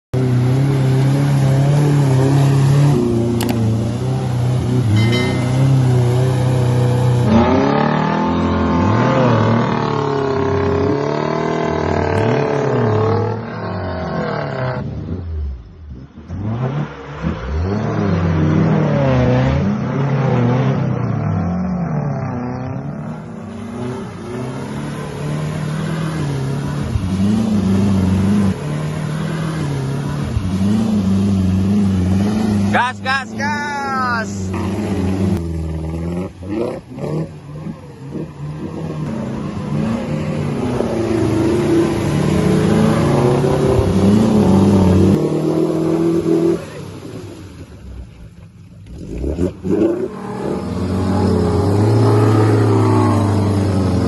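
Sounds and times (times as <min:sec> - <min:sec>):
off-road engine revving: 0:00.1 - 0:54.0.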